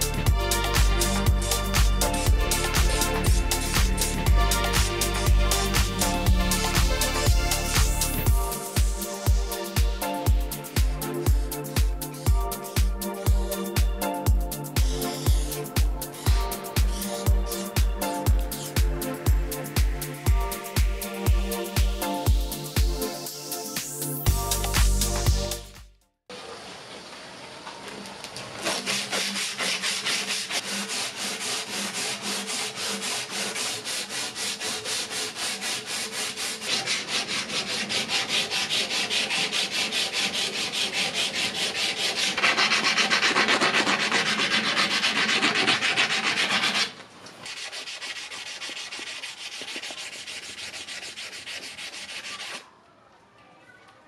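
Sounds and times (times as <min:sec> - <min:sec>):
sandpaper scratching metal: 0:00.0 - 0:25.7, 0:28.6 - 0:52.6.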